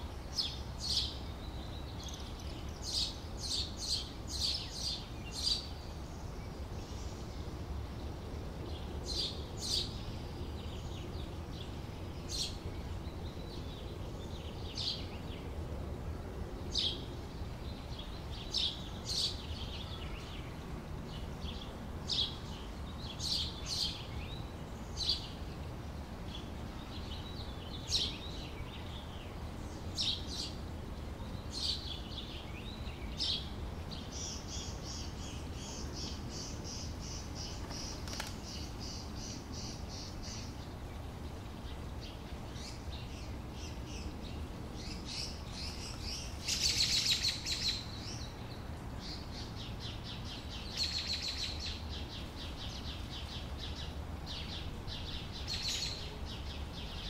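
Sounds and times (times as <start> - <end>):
small birds chirping and trilling: 0.0 - 15.7, 16.3 - 57.0.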